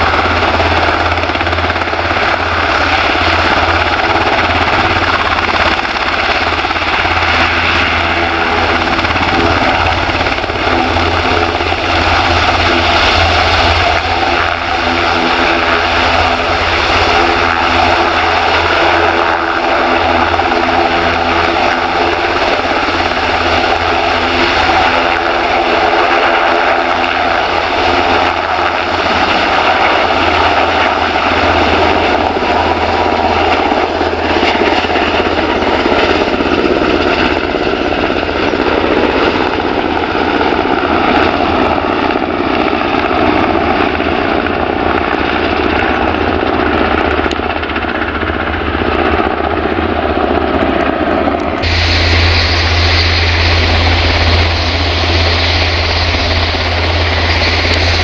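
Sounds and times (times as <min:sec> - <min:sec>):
helicopter engines and rotor: 0:00.0 - 0:58.0
steady whining tones: 0:00.0 - 0:58.0.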